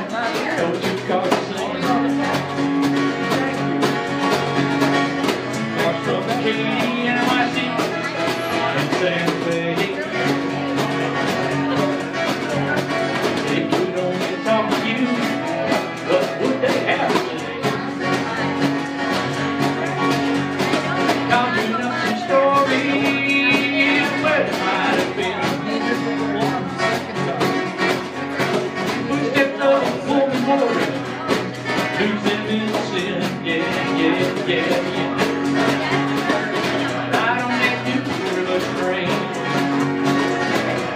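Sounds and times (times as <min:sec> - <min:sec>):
acoustic guitar strumming: 0:00.0 - 0:40.9.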